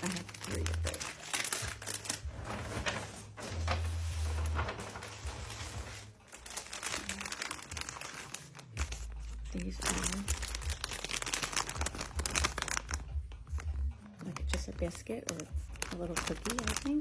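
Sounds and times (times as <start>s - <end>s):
plastic packages crinkling: 0.0s - 17.0s.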